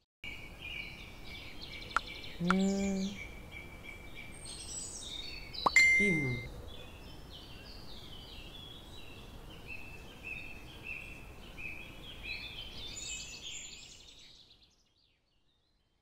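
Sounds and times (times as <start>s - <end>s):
outdoor background noise: 0.2s - 16.0s.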